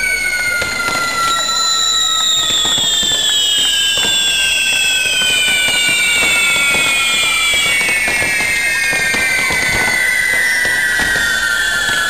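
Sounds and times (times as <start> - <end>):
fireworks whistles sliding down: 0.0 - 12.0.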